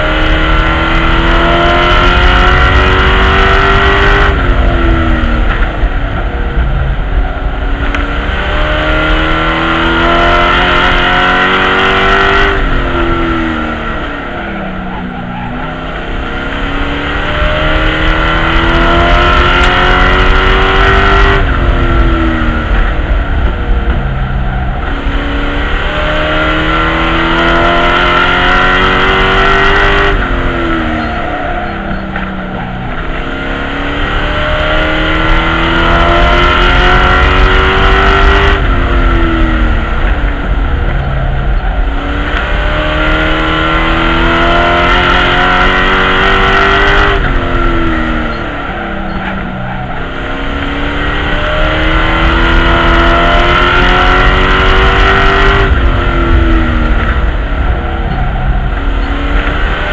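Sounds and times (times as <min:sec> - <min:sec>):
race truck engine revving: 0:00.0 - 0:59.9.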